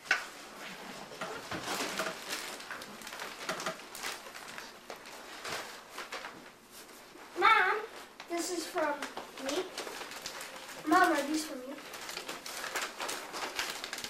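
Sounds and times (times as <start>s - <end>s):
people rustling and shuffling: 0.0s - 14.0s.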